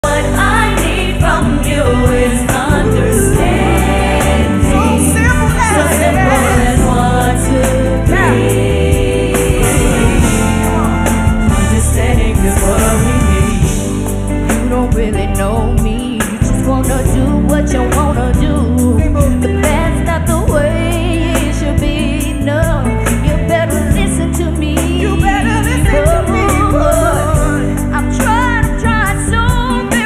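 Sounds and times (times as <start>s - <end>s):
women singing in harmony: 0.0s - 13.8s, 14.6s - 30.0s
band backing: 0.0s - 30.0s
bass notes: 0.0s - 30.0s.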